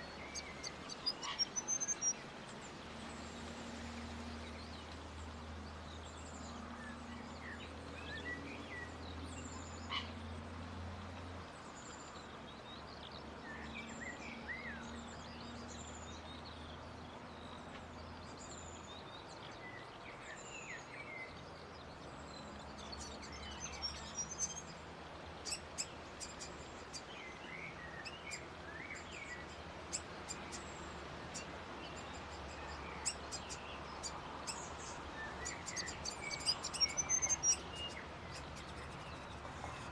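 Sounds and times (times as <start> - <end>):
small birds chirping: 0.0 - 10.2, 11.1 - 39.9.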